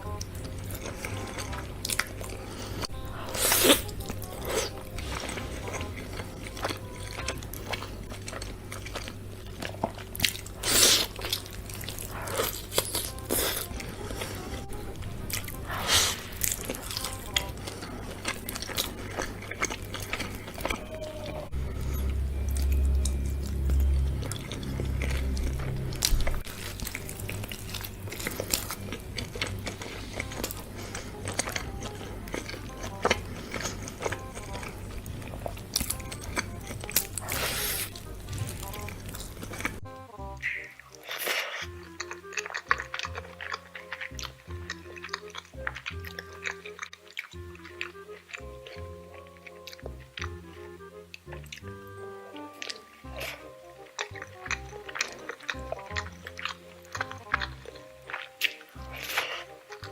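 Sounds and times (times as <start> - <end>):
background music: 0.0 - 59.9
close chewing of chicken: 0.0 - 59.9.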